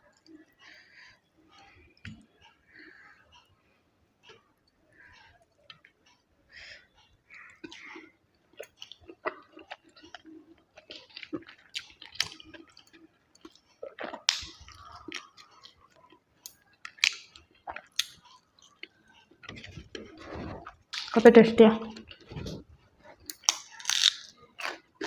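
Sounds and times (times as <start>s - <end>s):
wet chewing and mouth smacking: 4.2s - 21.2s, 21.9s - 25.0s.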